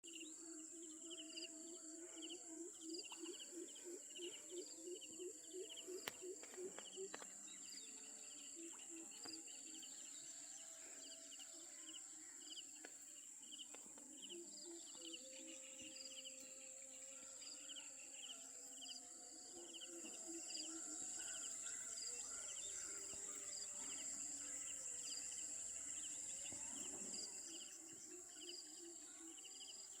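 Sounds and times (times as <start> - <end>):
insects chirping: 0.1 - 30.0.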